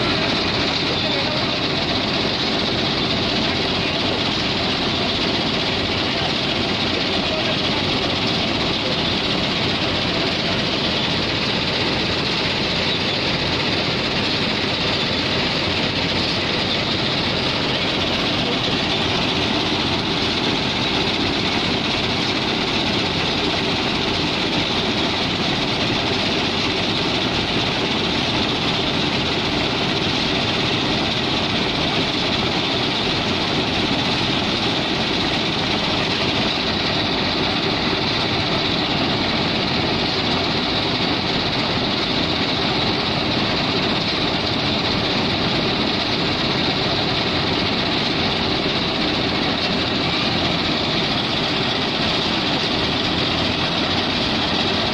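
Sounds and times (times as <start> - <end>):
tractor and harvester mechanical din: 0.0 - 54.9.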